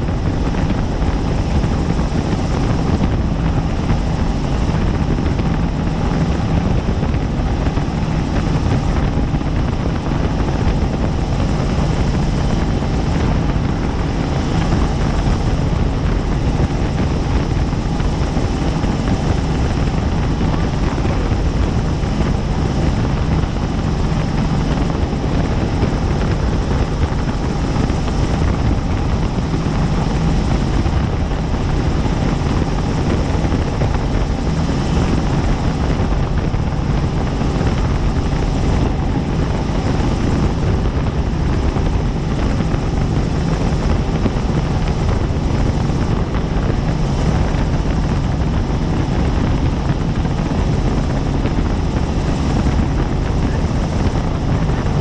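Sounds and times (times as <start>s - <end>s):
helicopter flying: 0.0s - 55.0s.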